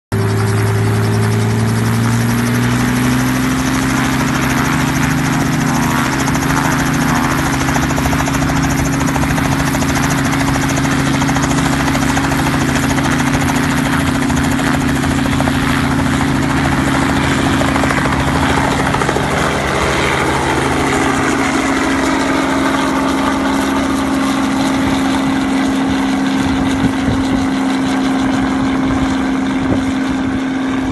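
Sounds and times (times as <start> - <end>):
helicopter engine and rotor: 0.1 - 30.9.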